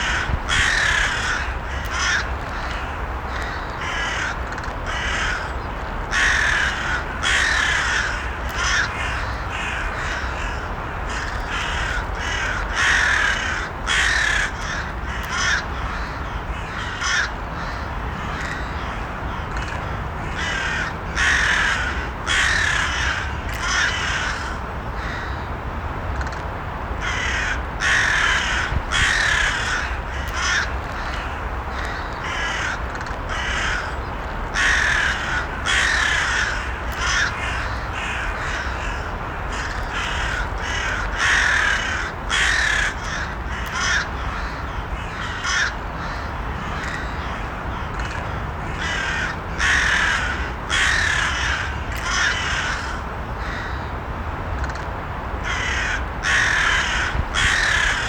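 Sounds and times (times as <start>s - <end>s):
crows cawing: 0.0s - 25.5s, 27.0s - 53.9s, 55.4s - 58.0s.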